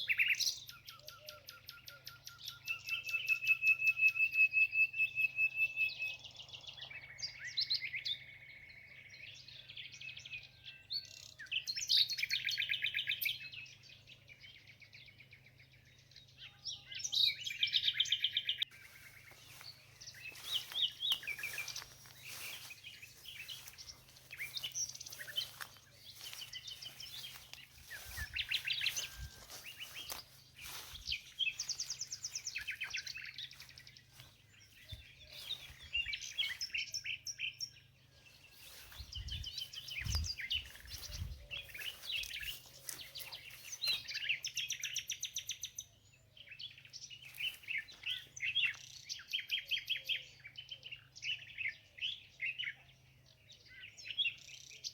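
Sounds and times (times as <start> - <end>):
songbirds chirping and singing: 0.0 - 54.9.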